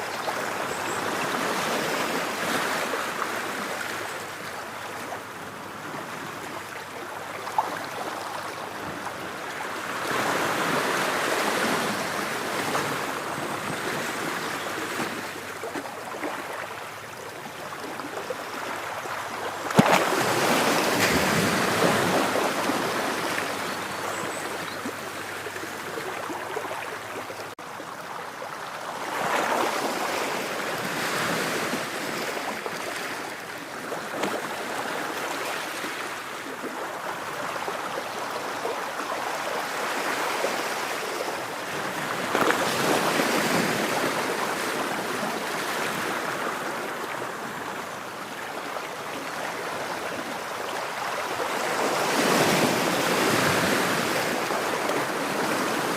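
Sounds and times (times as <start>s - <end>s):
ocean waves on shore: 0.0s - 55.9s.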